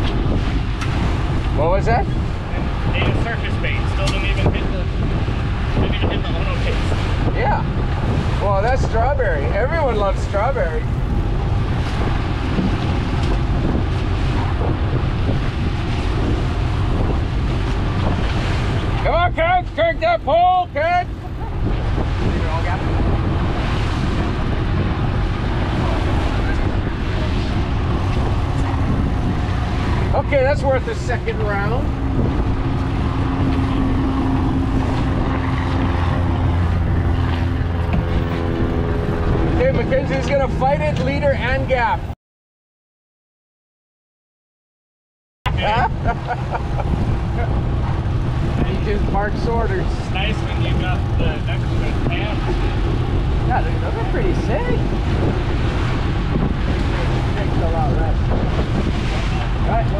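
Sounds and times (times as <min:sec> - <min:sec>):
water rushing: 0:00.0 - 0:42.1, 0:45.5 - 0:59.9
boat engine rumble: 0:00.0 - 0:42.2, 0:45.5 - 0:59.9
wind on microphone: 0:00.0 - 0:42.2, 0:45.5 - 0:59.9.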